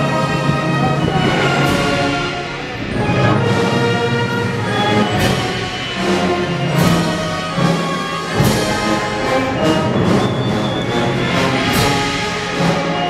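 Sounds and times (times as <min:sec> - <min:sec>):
brass band slow march: 0:00.0 - 0:13.0.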